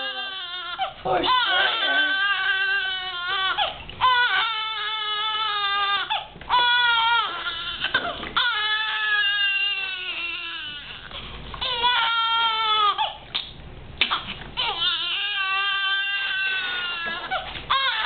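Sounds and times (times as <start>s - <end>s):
newborn baby crying: 0.0s - 13.2s, 14.0s - 18.0s.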